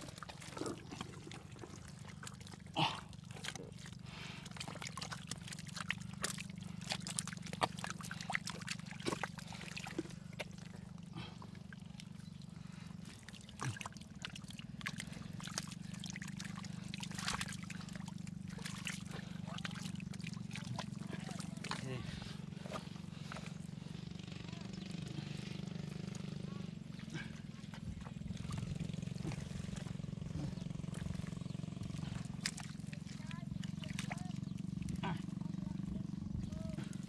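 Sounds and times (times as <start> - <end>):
low hum: 0.0 - 37.0
muddy water splashing: 0.0 - 37.0.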